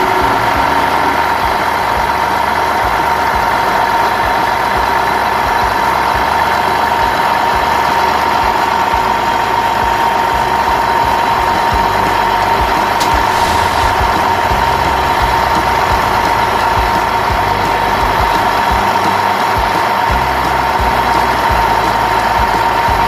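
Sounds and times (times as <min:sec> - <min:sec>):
engine running with high whine: 0:00.0 - 0:23.0.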